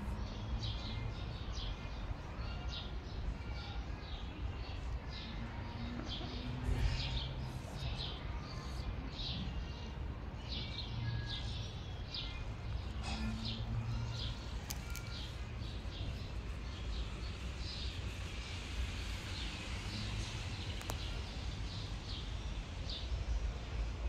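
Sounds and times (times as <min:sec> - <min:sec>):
low outdoor background rumble: 0:00.0 - 0:24.0
small birds chirping: 0:00.1 - 0:24.0.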